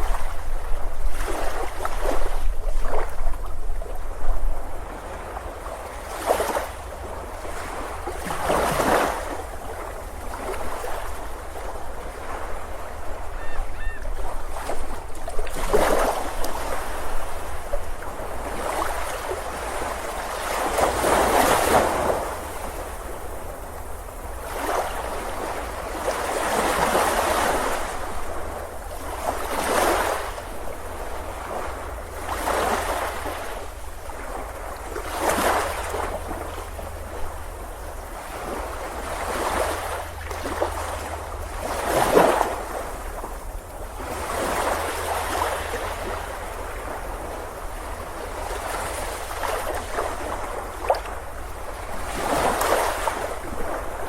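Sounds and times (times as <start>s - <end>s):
surf breaking on a beach: 0.0s - 54.0s.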